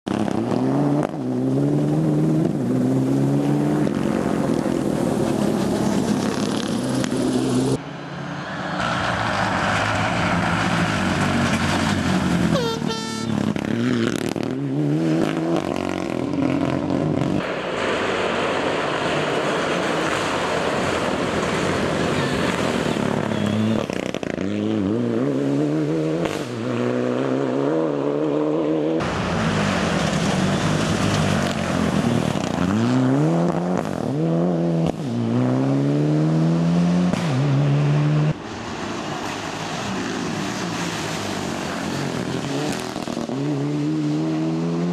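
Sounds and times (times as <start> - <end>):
rally car engine revving: 0.1 - 7.8, 8.8 - 17.5, 18.5 - 38.4, 39.4 - 44.9.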